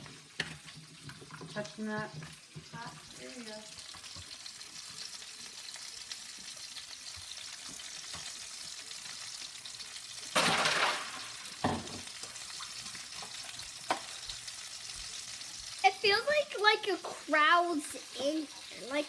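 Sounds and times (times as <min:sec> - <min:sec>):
cutlets sizzling in hot oil: 0:00.0 - 0:19.0.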